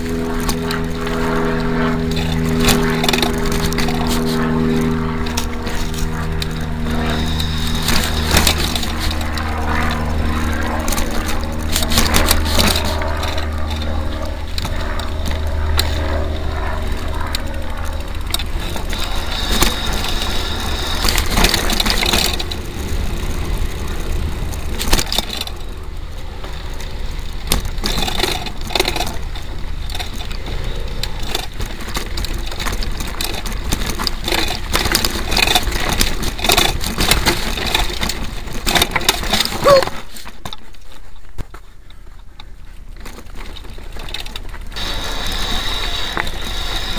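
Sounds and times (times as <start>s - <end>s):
wind rumble on microphone: 0.0s - 40.0s
bike rattling and knocking: 0.0s - 46.9s.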